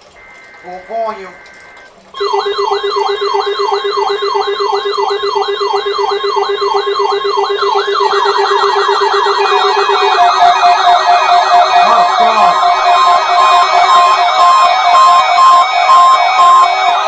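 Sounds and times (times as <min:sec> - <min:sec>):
faster alarm sweep: 0:00.0 - 0:17.0
pulsing low alarm tone: 0:00.0 - 0:17.0
rising alarm sweep: 0:00.0 - 0:17.0
beeping tone: 0:00.1 - 0:17.0.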